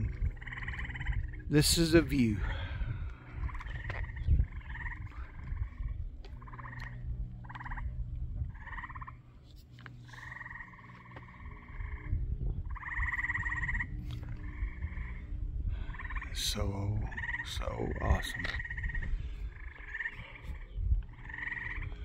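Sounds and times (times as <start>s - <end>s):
buzzing trilling animal calls: 0.0s - 2.7s, 3.3s - 9.4s, 10.0s - 22.0s
wind rumble on microphone: 0.0s - 22.0s.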